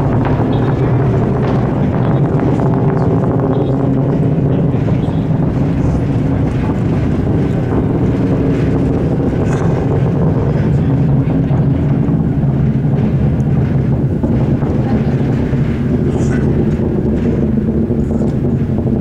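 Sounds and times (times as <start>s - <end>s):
distant rocket engines rumbling: 0.0s - 19.0s.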